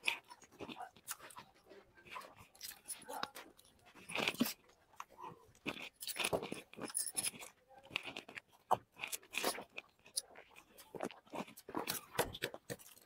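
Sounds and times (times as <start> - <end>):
chewing noodles: 0.0 - 13.0.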